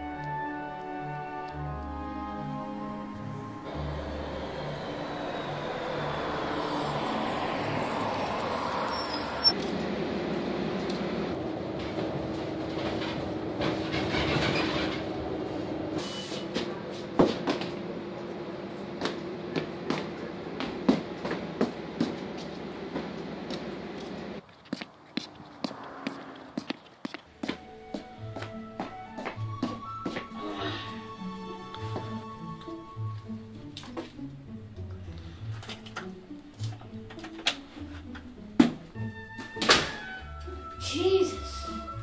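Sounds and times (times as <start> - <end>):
bus engine humming: 0.0 - 13.8, 15.0 - 42.0.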